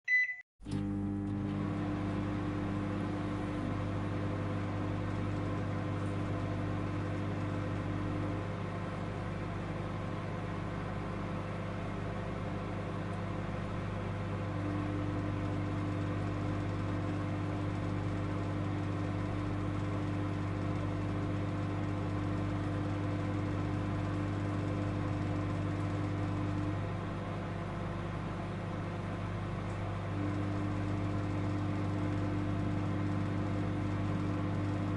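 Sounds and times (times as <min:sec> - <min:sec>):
microwave oven humming: 0:00.1 - 0:34.9.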